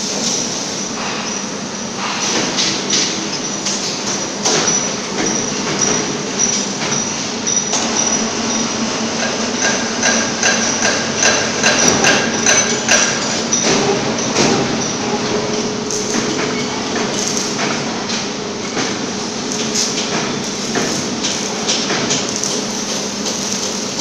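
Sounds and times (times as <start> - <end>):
machine whine and hum: 0.0 - 24.0.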